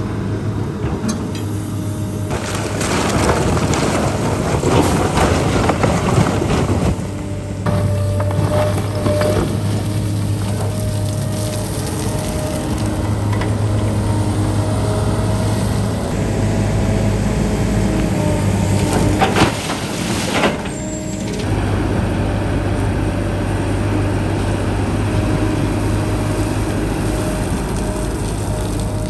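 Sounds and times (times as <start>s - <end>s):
construction machine engine running: 0.0s - 29.0s.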